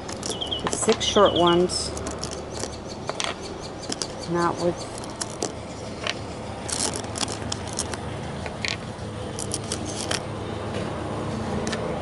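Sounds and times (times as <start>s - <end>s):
bolts clicking and scraping on metal: 0.0s - 10.2s.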